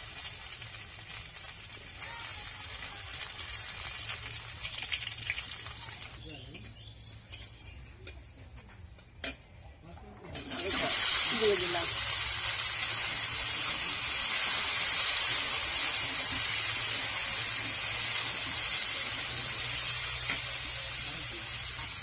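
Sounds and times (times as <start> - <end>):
potatoes sizzling in hot oil: 0.0 - 6.3, 10.4 - 22.0.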